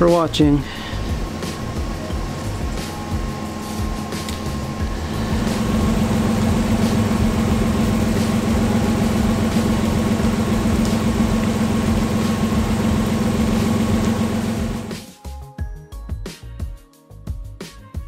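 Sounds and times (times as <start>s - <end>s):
car engine idling: 0.4s - 15.0s.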